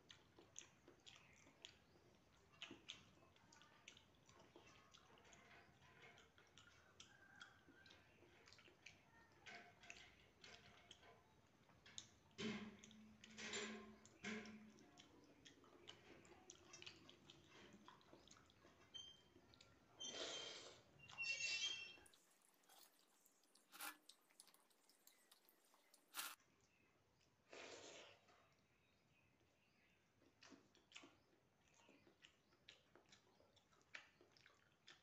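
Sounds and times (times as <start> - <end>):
faint chewing: 0.0 - 35.0.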